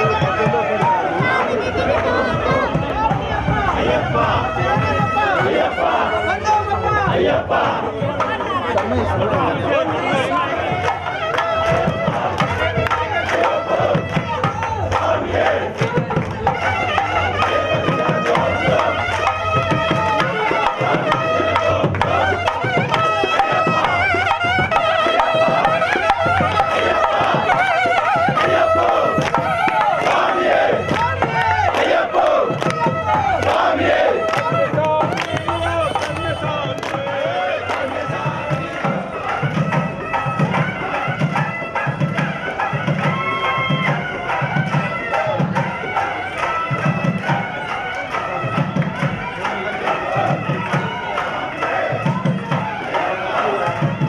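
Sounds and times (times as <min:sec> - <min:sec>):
steady drum beat: 0:00.0 - 0:54.0.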